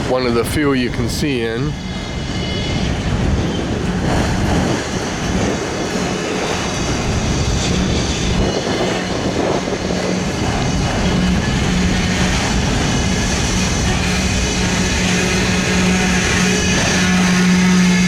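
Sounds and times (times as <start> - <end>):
steel wheels on track: 0.0 - 18.0.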